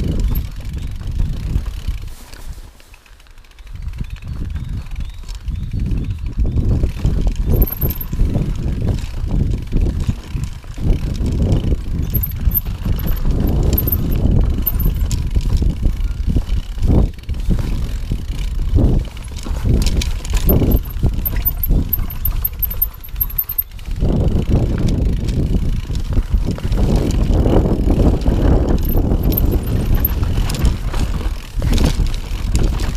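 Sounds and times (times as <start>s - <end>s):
bike rolling rumble: 0.0s - 32.9s.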